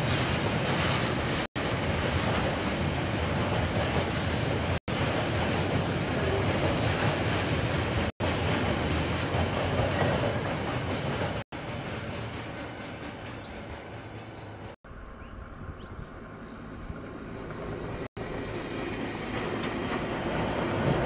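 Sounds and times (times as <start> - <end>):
train wheels on rail: 0.0 - 14.8, 16.2 - 21.0.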